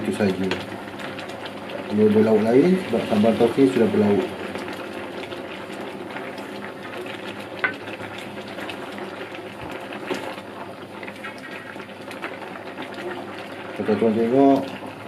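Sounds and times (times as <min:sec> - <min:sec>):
pot simmering and bubbling: 0:00.0 - 0:15.0.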